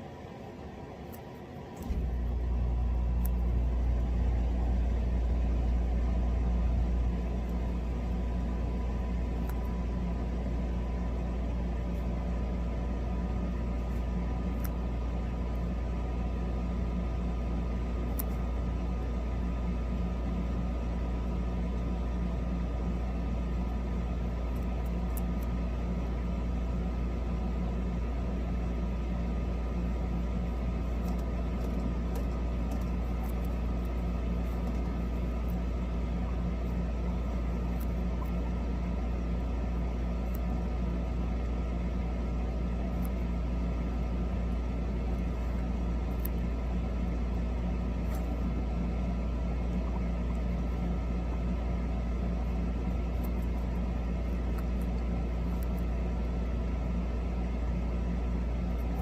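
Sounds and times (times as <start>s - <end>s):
steady low hum with tones: 0.0s - 59.0s.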